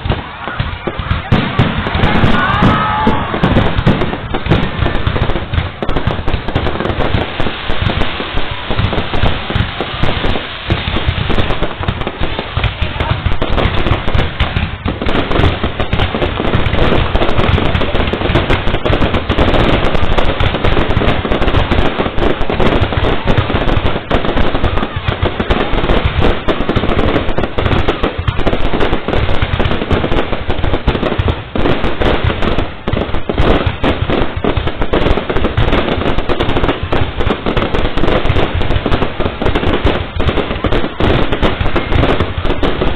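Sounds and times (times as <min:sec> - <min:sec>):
fireworks banging: 0:00.0 - 0:42.9.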